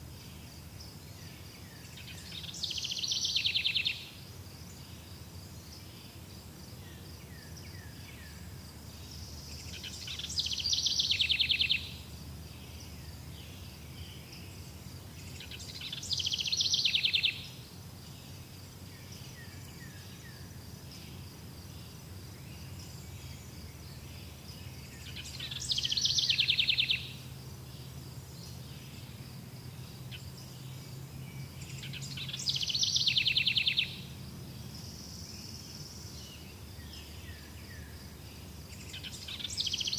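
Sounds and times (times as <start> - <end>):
rapidly pulsing insect call: 0.0 - 39.9.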